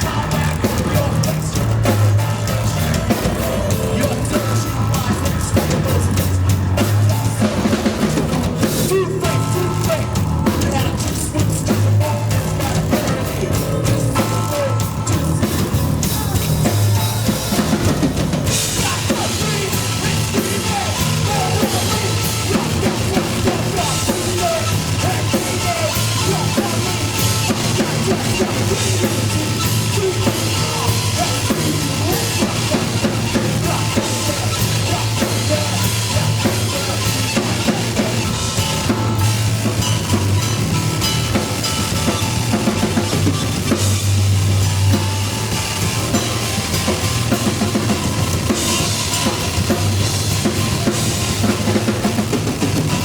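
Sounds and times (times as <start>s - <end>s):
bass drum and snare beat: 0.0s - 53.0s
live band playing: 0.0s - 53.0s
sustained low bass notes: 0.0s - 53.0s.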